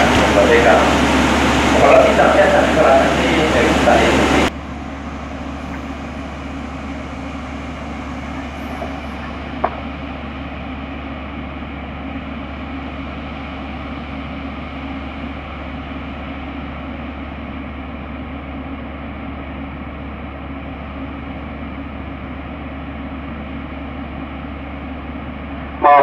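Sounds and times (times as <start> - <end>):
diesel railcar engines rumbling: 0.0 - 26.0.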